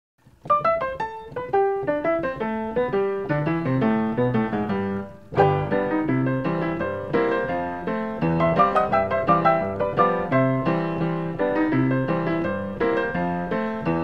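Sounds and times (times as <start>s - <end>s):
piano music: 0.2s - 14.0s.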